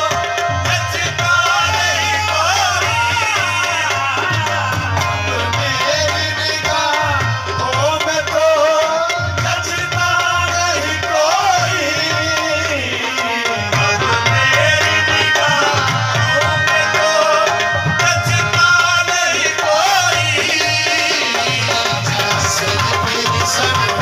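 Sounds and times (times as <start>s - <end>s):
ornamented singing: 0.0s - 24.0s
tabla rhythm: 0.0s - 24.0s.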